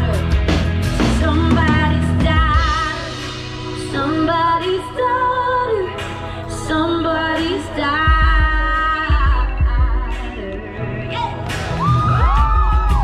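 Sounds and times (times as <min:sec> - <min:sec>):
live band playing: 0:00.0 - 0:13.0
woman singing: 0:01.0 - 0:11.5.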